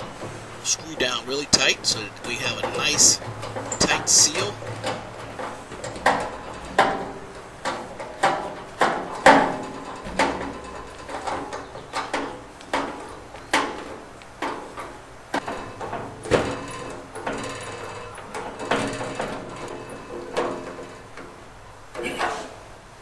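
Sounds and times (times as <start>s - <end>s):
metal clicks and knocks: 0.0s - 22.6s.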